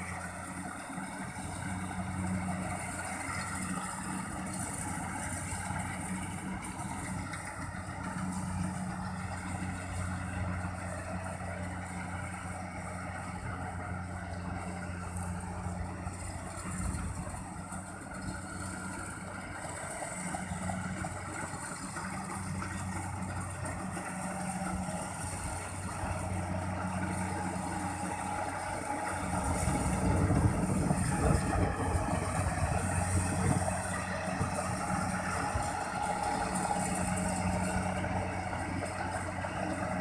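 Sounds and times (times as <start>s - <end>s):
combine harvester engine running: 0.0s - 40.0s.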